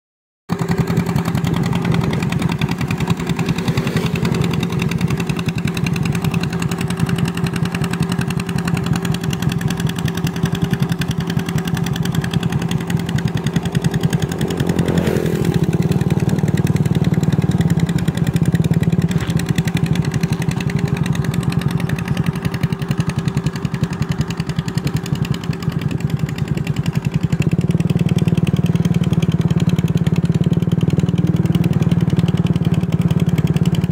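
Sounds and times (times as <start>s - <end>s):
tractor engine running: 0.5s - 33.9s.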